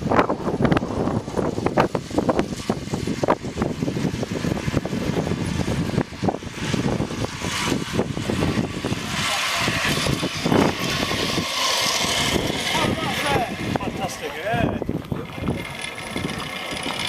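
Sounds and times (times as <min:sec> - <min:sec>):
wind buffeting microphone: 0:00.0 - 0:17.0
zip-line trolleys whirring: 0:00.0 - 0:17.0.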